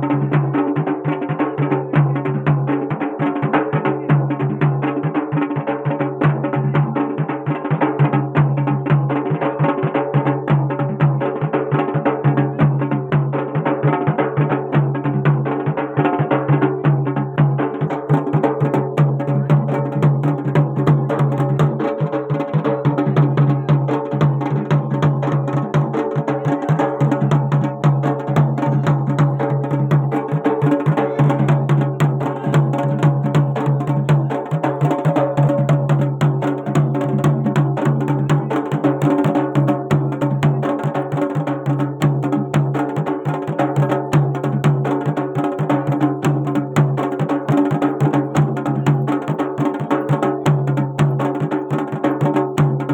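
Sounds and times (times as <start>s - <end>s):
fast hand drumming: 0.0s - 52.9s.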